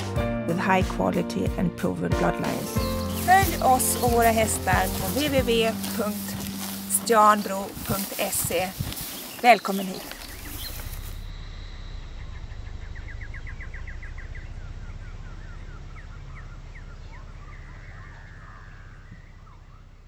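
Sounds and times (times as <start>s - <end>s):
birds chirping: 2.2s - 20.0s
steady low rumble: 2.5s - 9.2s, 10.0s - 20.0s
bird trill: 2.6s - 20.0s.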